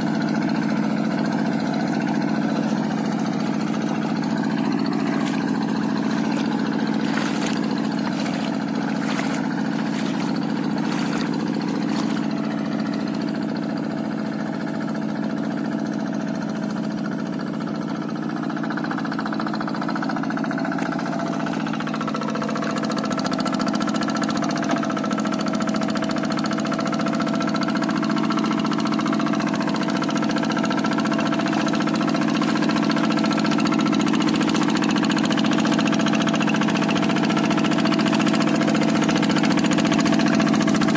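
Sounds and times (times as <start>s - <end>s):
hand tractor diesel engine running: 0.0s - 40.9s.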